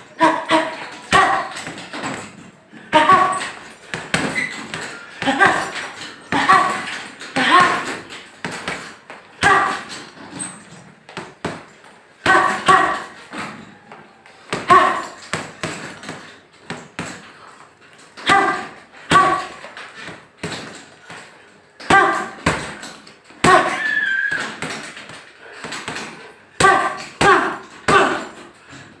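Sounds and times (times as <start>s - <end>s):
gloves punching heavy bag: 0.0s - 17.4s, 18.2s - 28.6s.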